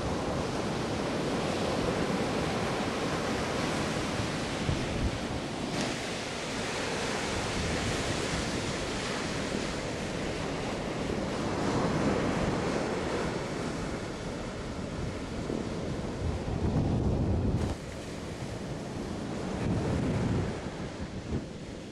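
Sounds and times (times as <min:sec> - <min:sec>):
ocean surf breaking: 0:00.0 - 0:21.9
wind buffeting microphone: 0:00.0 - 0:21.9.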